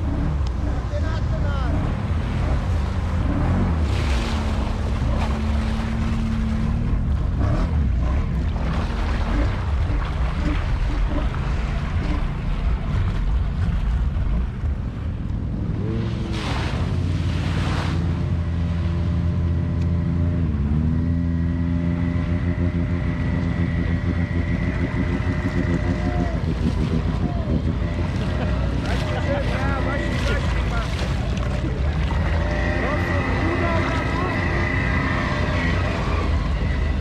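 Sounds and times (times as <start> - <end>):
off-road vehicle engines under load: 0.0 - 16.4, 19.0 - 37.0
water splashing and churning: 0.0 - 37.0.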